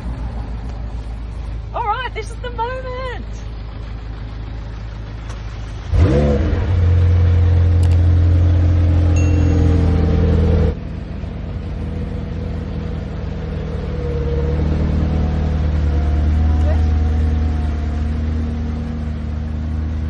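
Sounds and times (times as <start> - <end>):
car engine starting and idling: 0.0 - 20.0.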